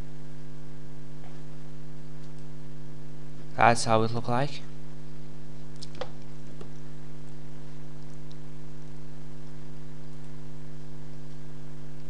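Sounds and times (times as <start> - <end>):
electrical hum with buzz: 0.0 - 12.0.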